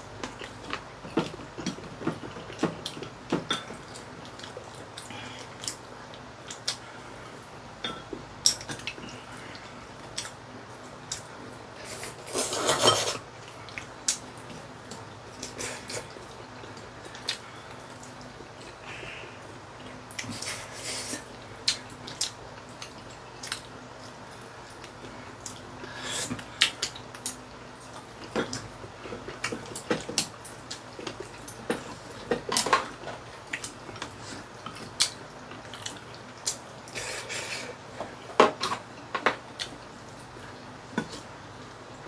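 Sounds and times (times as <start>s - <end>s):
people chewing food: 0.0s - 42.0s.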